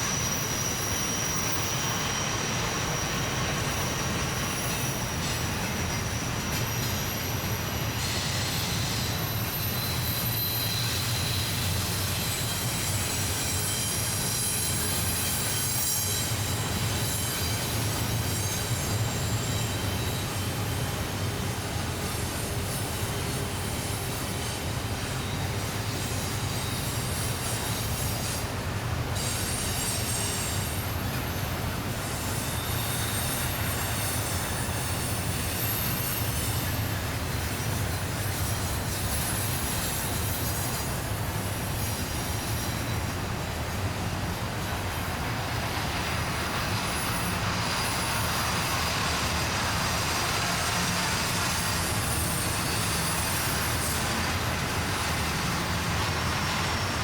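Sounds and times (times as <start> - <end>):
high wheel flange squeal: 0.0 - 57.0
train wheels rumbling on rails: 0.0 - 57.0.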